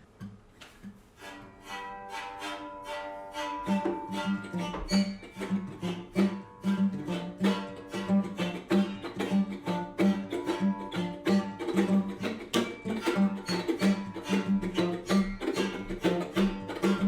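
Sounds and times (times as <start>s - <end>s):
plucked string instrument strumming: 0.0s - 17.0s.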